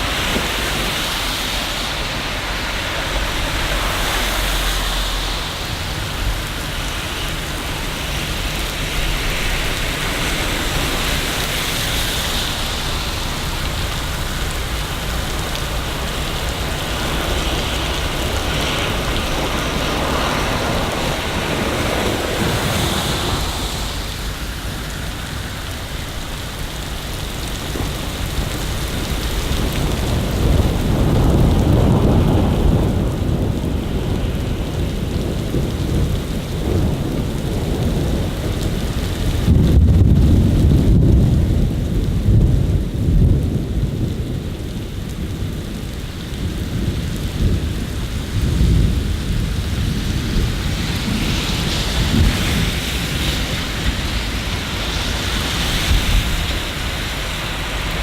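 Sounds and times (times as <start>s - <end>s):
rain falling on streets: 0.0s - 58.0s
thunder rumbling: 0.0s - 58.0s.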